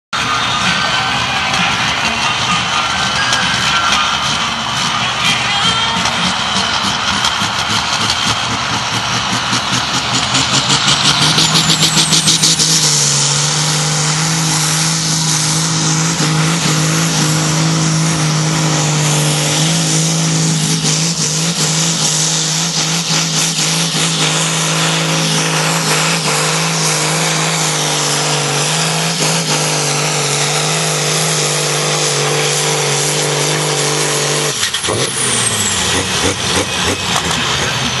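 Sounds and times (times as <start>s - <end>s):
tractor diesel engine at full throttle: 0.1s - 38.0s.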